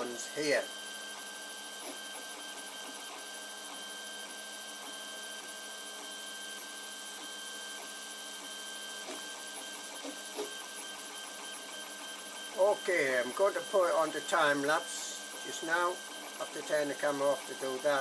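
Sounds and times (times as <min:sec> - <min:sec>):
stepper motor whine: 0:00.0 - 0:18.0.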